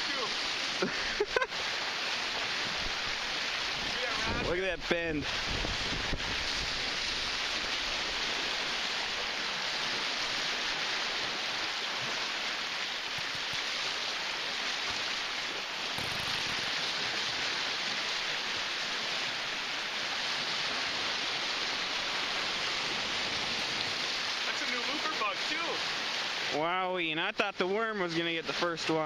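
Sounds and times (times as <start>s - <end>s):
waves washing on rocky shore: 0.0s - 26.8s.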